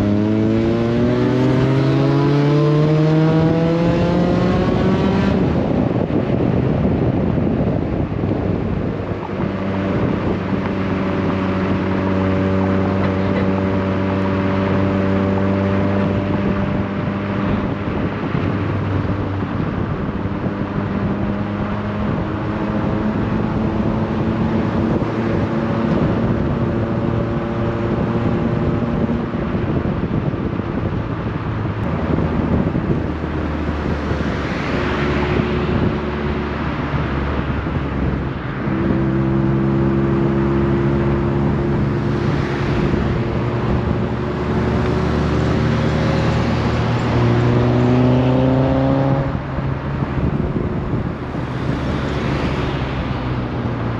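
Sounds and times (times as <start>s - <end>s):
road and wind noise: 0.0s - 53.9s.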